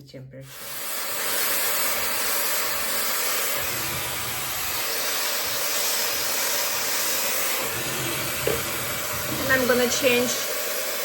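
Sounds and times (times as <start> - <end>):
hair dryer blowing air: 0.5 - 11.0.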